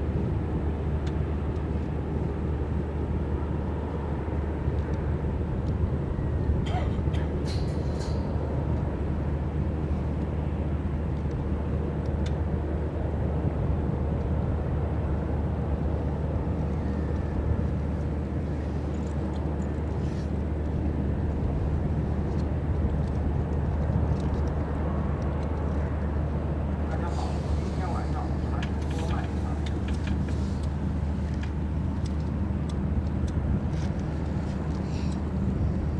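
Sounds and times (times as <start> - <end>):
ship engines droning: 0.0 - 35.9.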